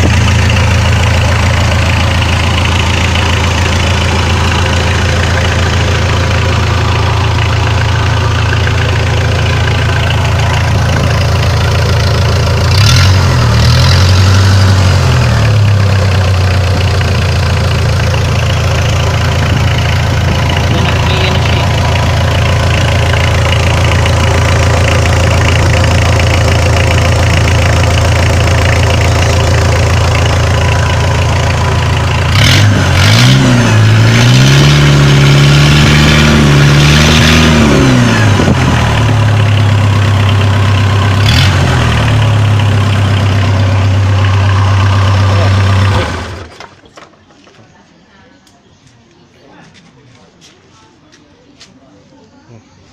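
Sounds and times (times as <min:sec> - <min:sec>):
diesel engine idling and revving: 0:00.0 - 0:46.9.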